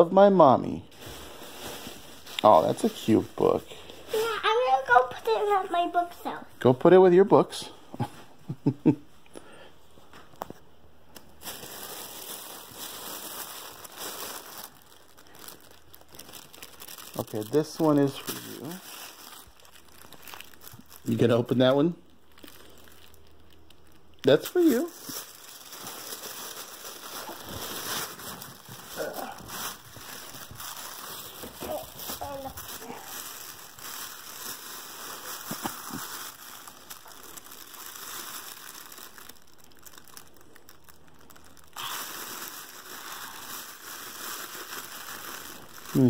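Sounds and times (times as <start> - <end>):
plastic wrapping crinkling: 0.9 - 6.3, 10.0 - 46.0.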